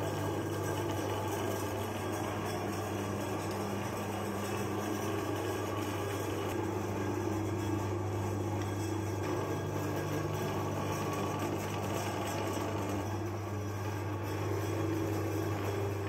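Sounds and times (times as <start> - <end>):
meat grinder motor humming: 0.0 - 16.0.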